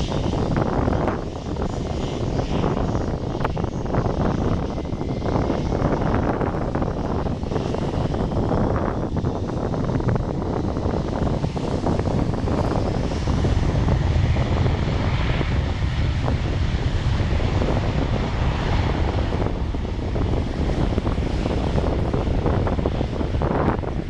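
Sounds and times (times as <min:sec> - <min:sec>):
airliner engines rumbling: 0:00.0 - 0:24.0.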